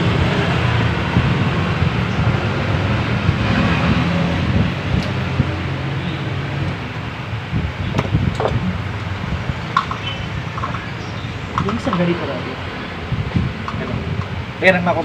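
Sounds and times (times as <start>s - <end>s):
rushing noise: 0.0s - 15.0s.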